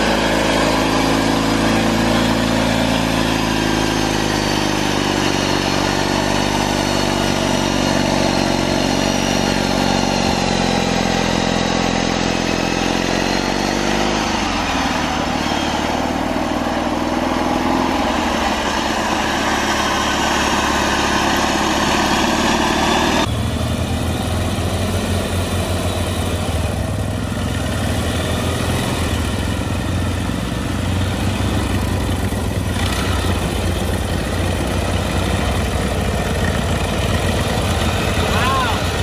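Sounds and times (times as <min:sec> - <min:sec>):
small lawn tractor engines: 0:00.0 - 0:39.0.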